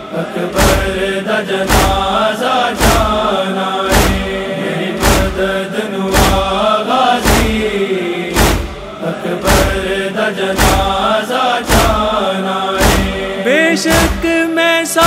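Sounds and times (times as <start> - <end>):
male chorus chanting: 0.0 - 15.0
heavy drum beat: 0.6 - 14.4.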